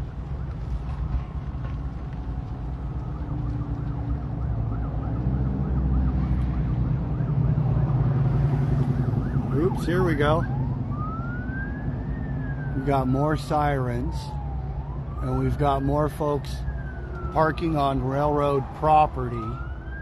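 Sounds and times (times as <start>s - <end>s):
distant emergency siren: 0.0s - 20.0s.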